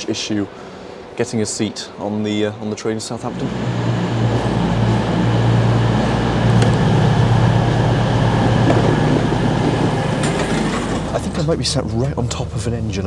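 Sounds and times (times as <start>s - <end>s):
train diesel engines droning: 0.0s - 11.8s.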